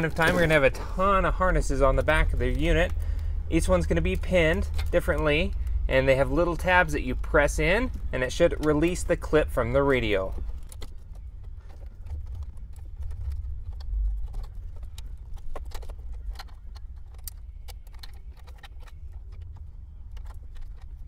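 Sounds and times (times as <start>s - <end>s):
low steady rumble: 0.0s - 21.0s
plastic connectors clicking and rattling: 0.0s - 21.0s.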